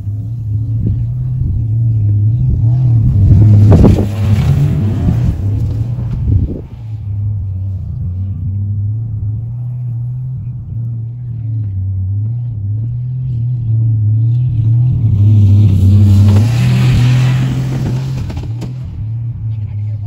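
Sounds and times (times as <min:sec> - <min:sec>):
van engine droning: 0:00.0 - 0:20.0.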